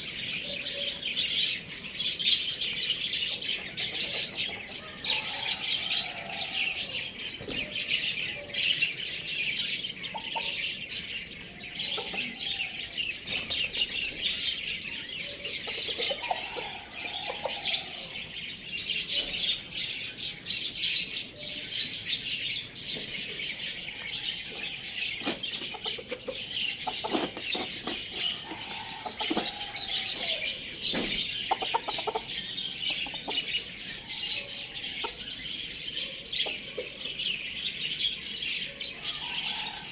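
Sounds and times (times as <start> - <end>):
small birds chirping: 0.0 - 39.9
chicken calls: 2.6 - 20.4, 21.3 - 39.9.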